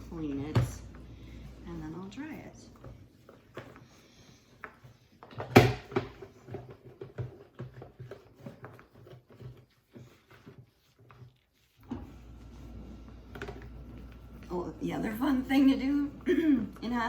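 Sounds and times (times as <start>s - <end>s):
scrubbing and rubbing: 0.0s - 5.2s, 6.4s - 16.1s.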